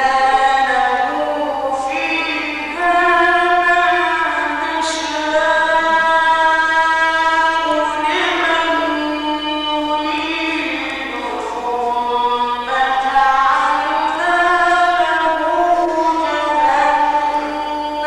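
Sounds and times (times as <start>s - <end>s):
man chanting melismatically: 0.0s - 18.0s.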